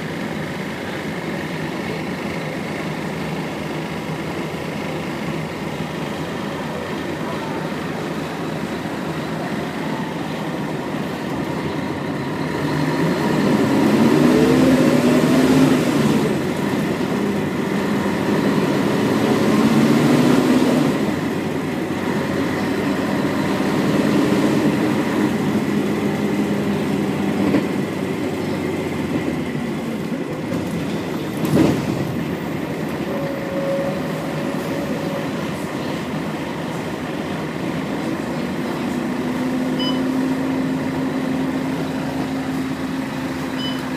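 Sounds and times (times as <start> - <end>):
bus engine whining: 0.0 - 43.9.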